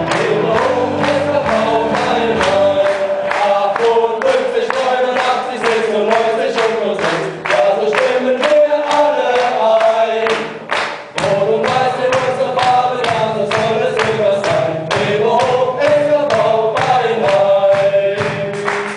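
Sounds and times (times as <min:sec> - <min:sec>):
song with choir-like vocals: 0:00.0 - 0:18.9.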